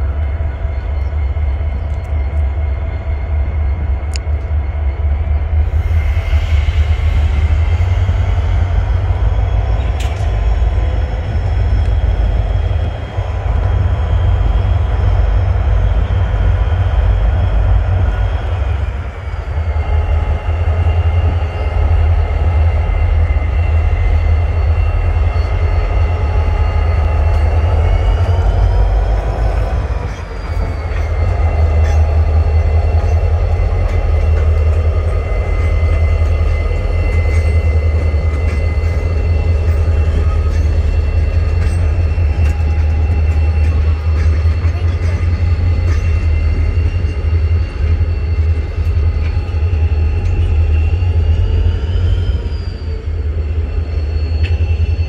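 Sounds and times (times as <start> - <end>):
diesel locomotive engine rumble: 0.0 - 55.0
high whine: 0.0 - 55.0.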